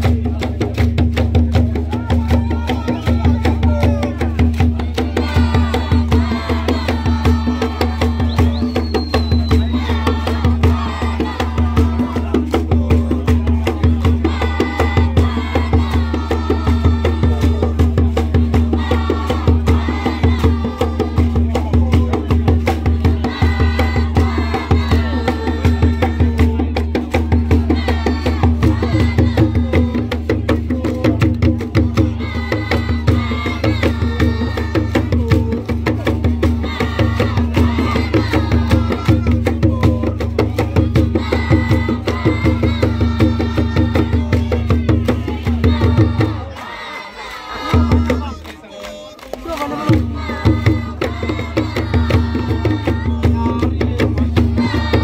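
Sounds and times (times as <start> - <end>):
hand drums beating: 0.0 - 46.8, 47.4 - 48.6, 49.2 - 55.0
group of voices singing: 0.0 - 55.0.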